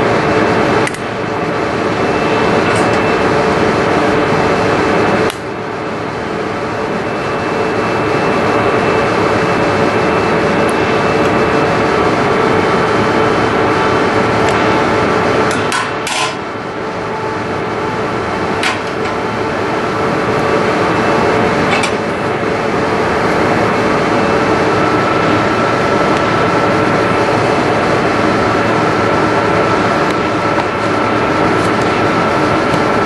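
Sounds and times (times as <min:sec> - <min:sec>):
steady loud background noise: 0:00.0 - 0:33.0.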